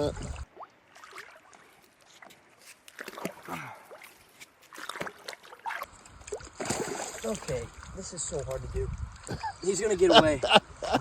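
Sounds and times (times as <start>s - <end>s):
light water splashing: 0.0s - 11.0s.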